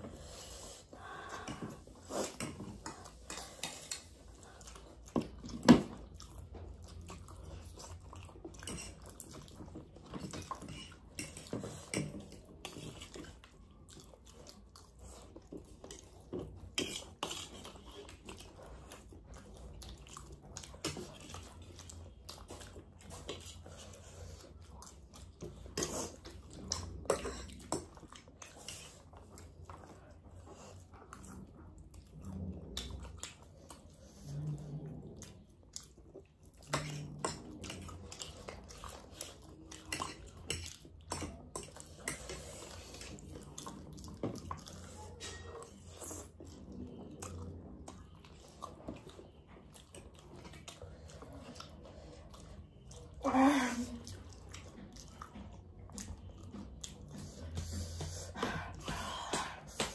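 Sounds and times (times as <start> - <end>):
slurping and chewing: 0.0 - 59.9.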